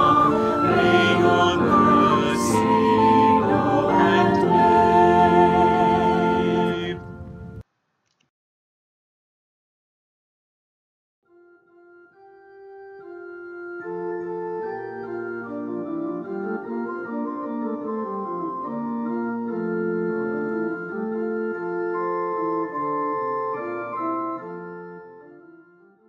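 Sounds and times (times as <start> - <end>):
instrumental hymn music: 0.0 - 7.6, 11.4 - 26.0.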